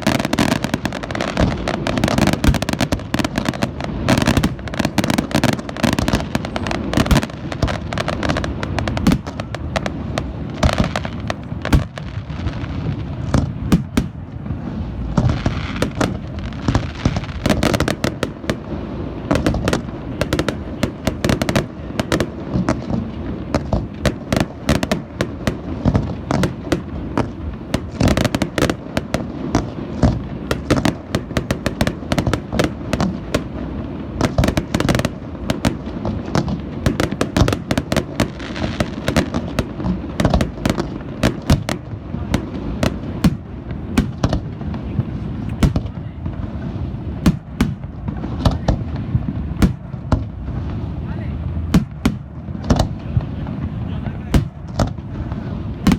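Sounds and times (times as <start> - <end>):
firework bursts and booms: 0.0 - 55.9
firework hissing crackle: 0.0 - 55.9.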